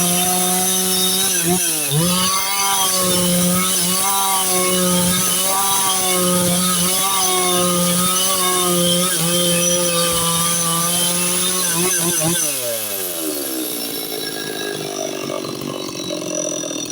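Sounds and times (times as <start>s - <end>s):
chainsaw cutting log: 0.0s - 16.9s.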